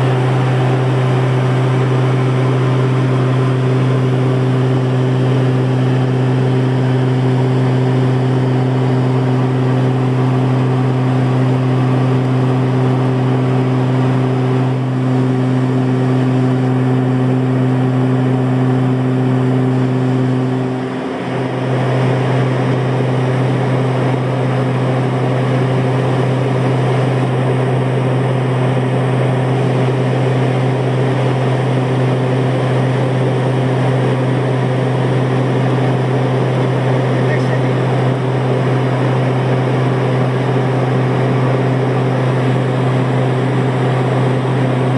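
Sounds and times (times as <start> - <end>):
turboprop engines droning: 0.0 - 44.9.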